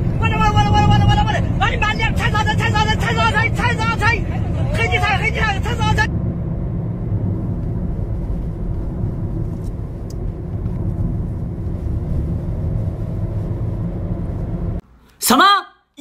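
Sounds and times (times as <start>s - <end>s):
car road and engine rumble: 0.0s - 14.9s.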